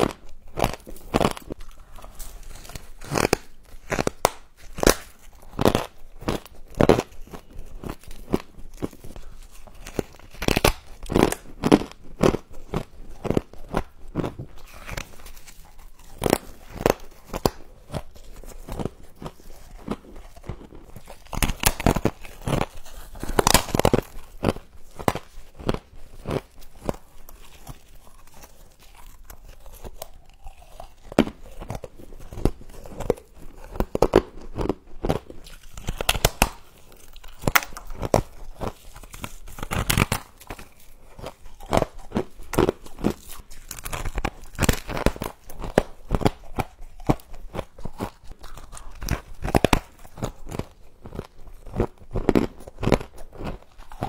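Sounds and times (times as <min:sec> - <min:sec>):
frost being chewed crunching: 0:00.0 - 0:54.0.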